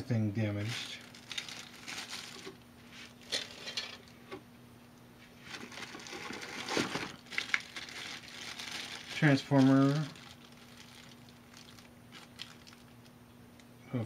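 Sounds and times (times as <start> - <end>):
faint steady hum: 0.0 - 14.0
plastic bag crinkling: 0.5 - 4.1, 5.4 - 13.1.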